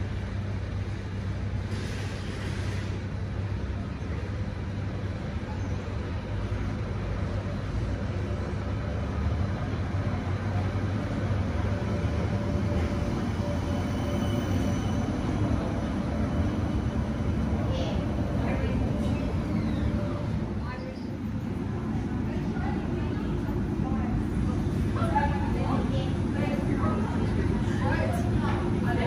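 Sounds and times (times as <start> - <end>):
tram motors humming: 0.0 - 29.0.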